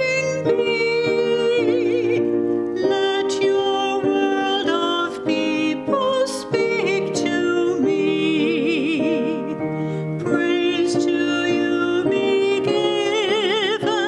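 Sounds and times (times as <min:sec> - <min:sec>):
keyboard accompaniment: 0:00.0 - 0:14.0.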